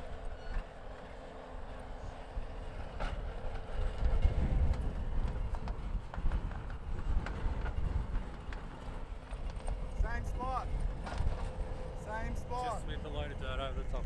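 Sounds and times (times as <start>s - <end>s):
wind rumble on microphone: 2.0s - 14.0s.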